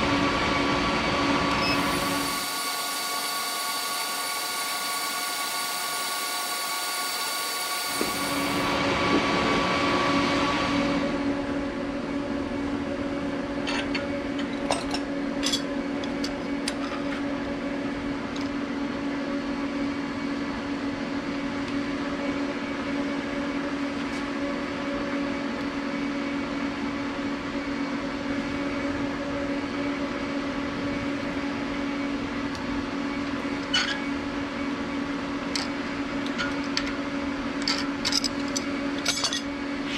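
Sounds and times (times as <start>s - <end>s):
induction forge whining: 0.0s - 39.9s
low machine hum: 0.0s - 39.9s.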